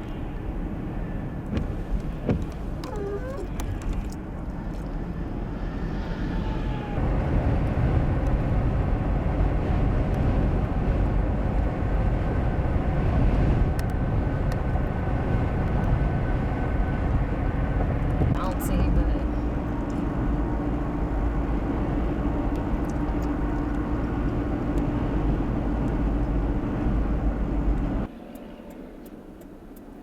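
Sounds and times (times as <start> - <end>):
road and wind rumble: 0.0 - 30.0.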